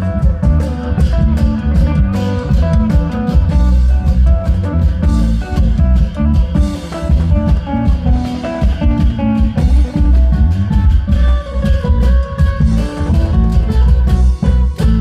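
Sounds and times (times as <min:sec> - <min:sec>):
heavy bass: 0:00.0 - 0:15.0
plucked-string melody: 0:00.0 - 0:15.0
steady drum beats: 0:00.0 - 0:15.0.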